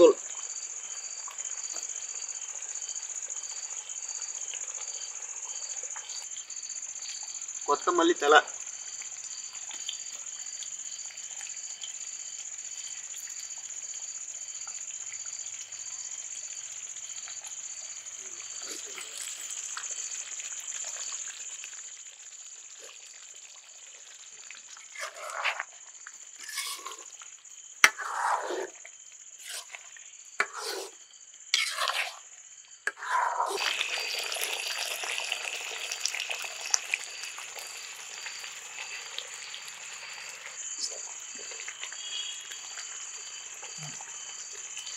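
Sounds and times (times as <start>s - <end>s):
gravy simmering and sizzling: 0.0s - 7.8s, 8.5s - 44.9s.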